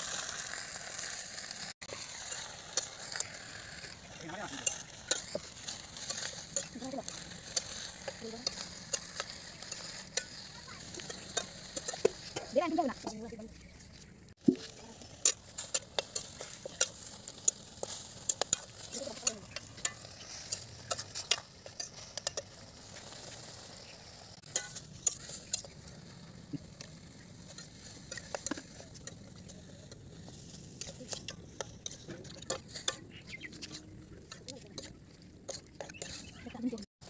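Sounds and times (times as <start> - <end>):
frying sizzle: 0.0 - 36.9
metal spatula scraping wok: 0.0 - 36.9.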